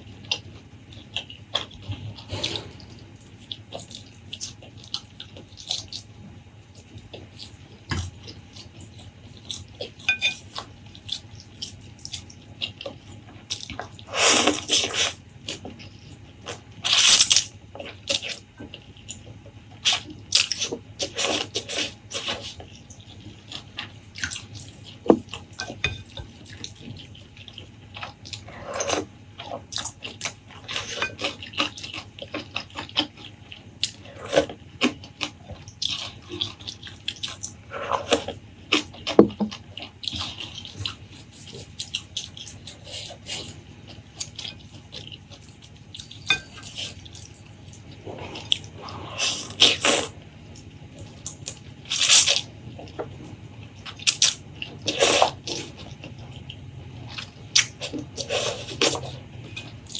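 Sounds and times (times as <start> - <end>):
wet chewing and slurping: 0.2 - 59.9.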